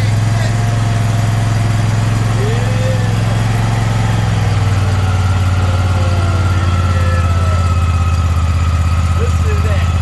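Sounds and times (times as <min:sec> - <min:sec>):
mower engine running: 0:00.0 - 0:10.0.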